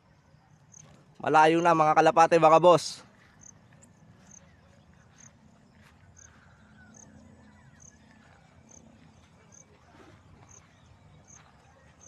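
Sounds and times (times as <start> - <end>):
high insect chirp: 0.0 - 9.8.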